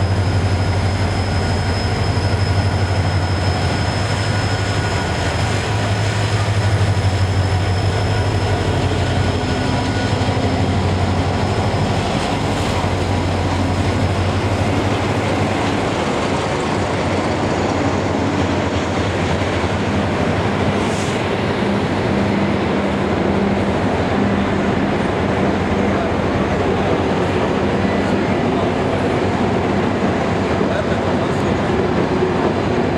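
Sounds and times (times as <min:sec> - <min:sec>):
locomotive engine drone: 0:00.0 - 0:32.9
train rolling noise: 0:00.0 - 0:32.9.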